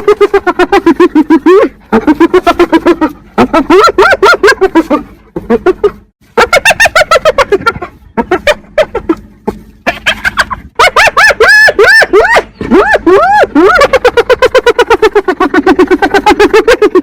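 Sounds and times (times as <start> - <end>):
hyena giggling: 0.0 - 17.0.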